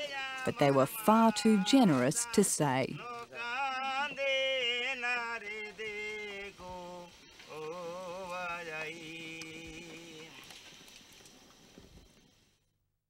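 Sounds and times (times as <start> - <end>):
man singing long held notes: 0.0 - 10.5.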